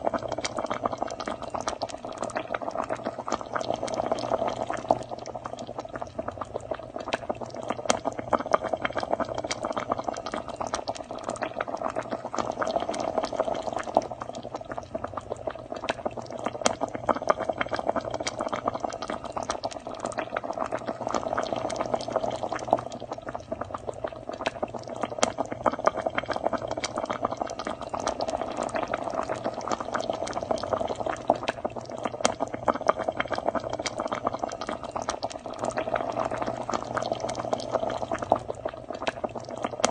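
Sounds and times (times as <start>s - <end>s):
stew boiling and bubbling: 0.0s - 39.9s.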